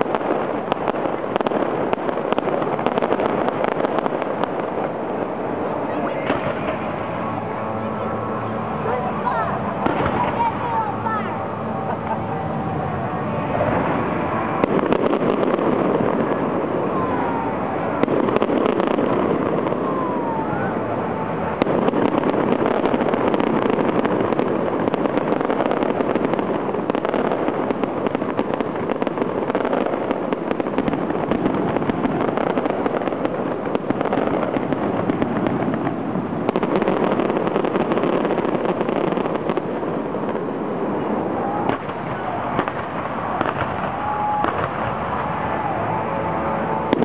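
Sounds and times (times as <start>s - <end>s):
firework crackle: 0.0s - 47.0s.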